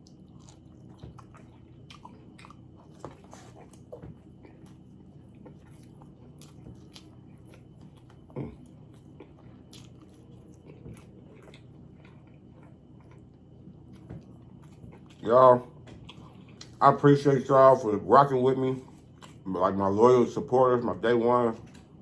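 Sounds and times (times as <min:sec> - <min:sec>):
person chewing sandwich: 0:00.0 - 0:17.0, 0:18.8 - 0:19.9.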